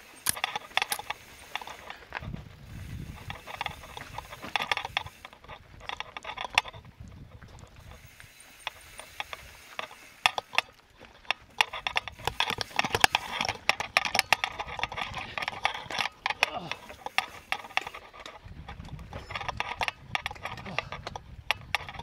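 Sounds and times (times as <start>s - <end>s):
mountain bike rattling over rocks: 0.0s - 22.0s.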